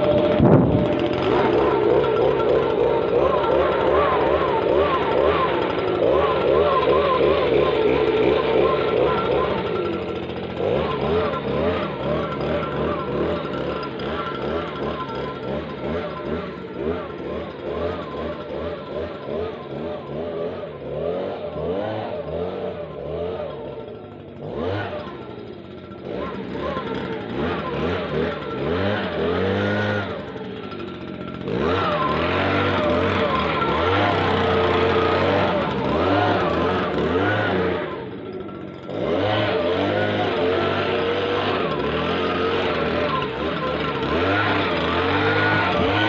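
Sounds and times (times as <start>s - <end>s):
leaf blower engine running: 0.0s - 46.0s.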